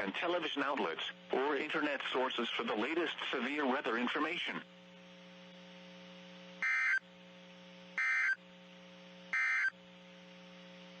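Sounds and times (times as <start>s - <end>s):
low receiver hum: 0.0s - 11.0s.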